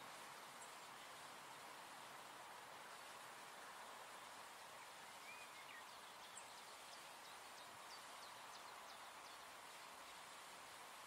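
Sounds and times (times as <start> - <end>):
faint even hiss: 0.0 - 11.0.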